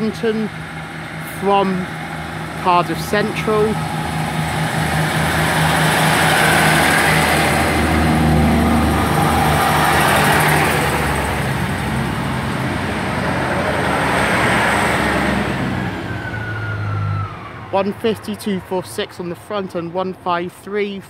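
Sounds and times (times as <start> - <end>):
diesel train engines pulling away: 0.0 - 21.0.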